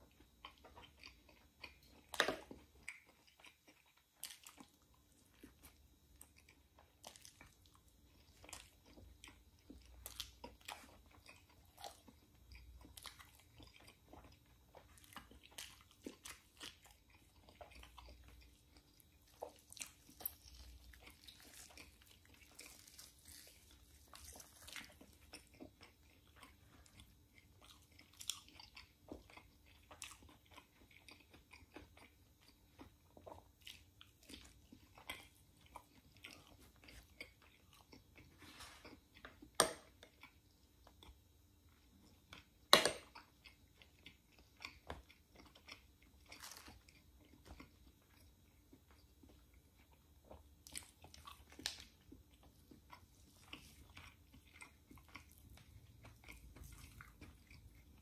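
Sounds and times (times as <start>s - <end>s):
wet chewing mouth sounds: 0.0s - 58.0s.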